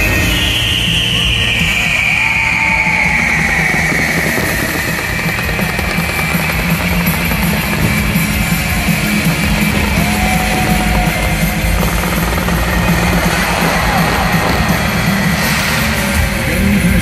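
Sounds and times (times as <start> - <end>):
loud music with steady beat: 0.0 - 17.0.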